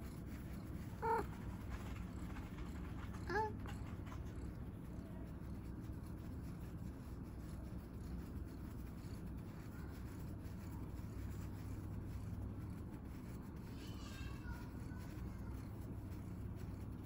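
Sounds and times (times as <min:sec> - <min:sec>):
faint light ticks and rubbing: 0:00.0 - 0:17.0
low background rumble: 0:00.0 - 0:17.0.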